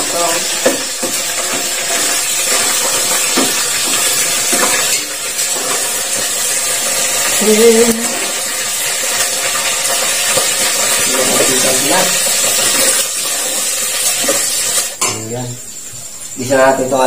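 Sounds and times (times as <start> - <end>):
onions sizzling in hot oil: 0.0 - 16.7.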